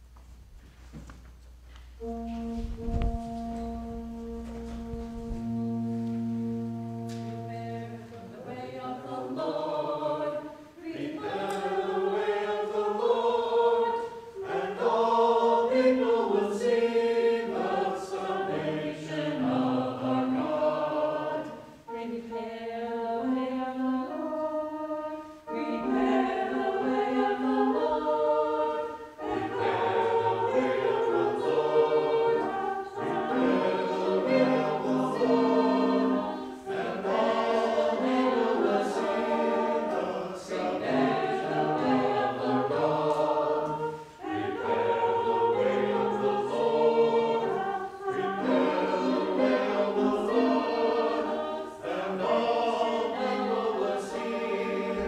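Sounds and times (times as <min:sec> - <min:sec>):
mixed choir singing: 0:02.0 - 0:55.0.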